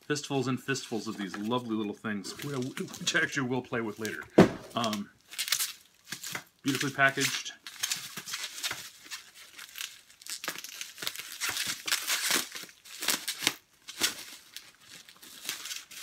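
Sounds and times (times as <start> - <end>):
bubble wrap crinkling: 0.4 - 16.0.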